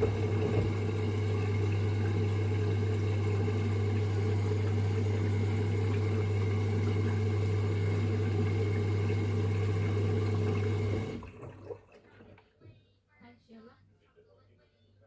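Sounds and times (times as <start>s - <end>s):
washing machine humming: 0.0s - 12.7s.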